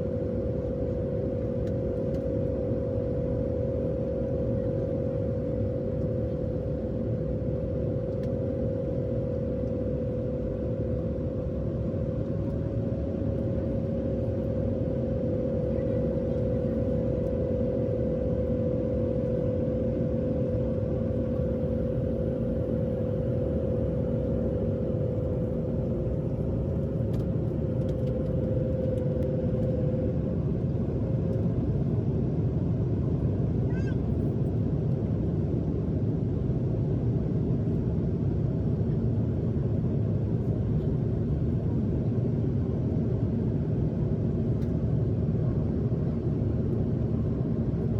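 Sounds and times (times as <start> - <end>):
jet airliner cabin engine rumble: 0.0 - 47.9.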